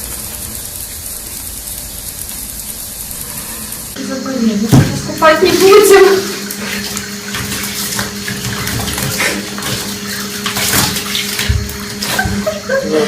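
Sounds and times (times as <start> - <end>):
steady low hum: 0.0 - 13.0
water running and splashing in bathtub: 0.0 - 13.0.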